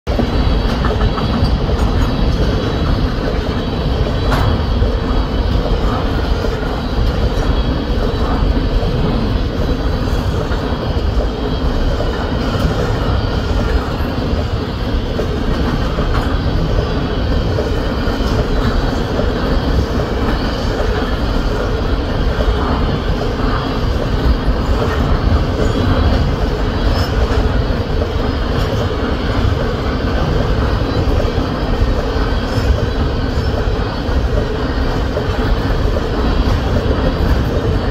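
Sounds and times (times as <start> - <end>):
freight train wheels rumbling: 0.1 - 37.9.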